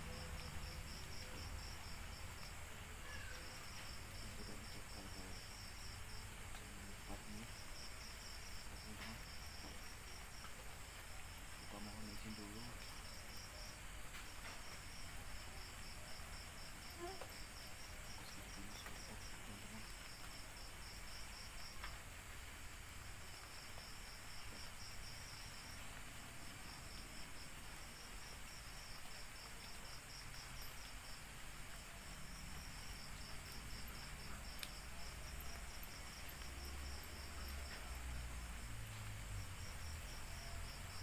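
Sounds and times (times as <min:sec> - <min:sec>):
faint low hum and hiss: 0:00.0 - 0:41.0
night insects chirping: 0:00.0 - 0:41.0.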